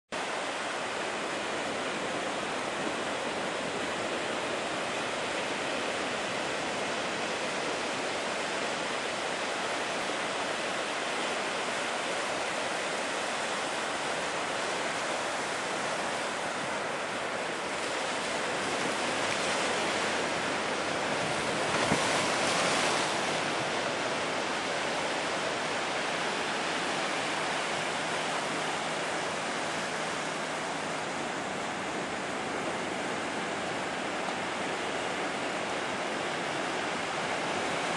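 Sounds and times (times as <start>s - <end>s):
high surf breaking: 0.2s - 37.9s.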